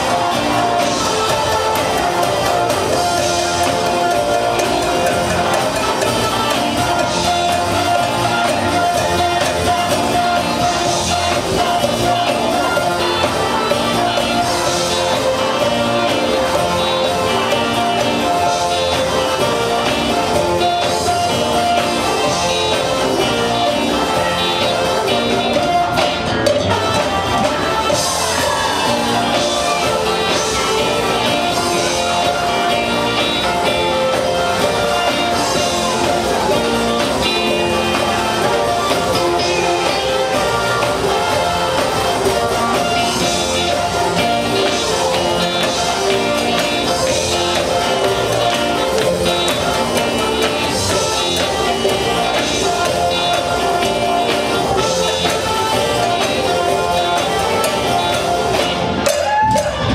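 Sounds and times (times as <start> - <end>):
bass guitar: 0.0 - 59.9
drum kit: 0.0 - 59.9
electric guitar: 0.0 - 59.9
keyboards: 0.0 - 59.9.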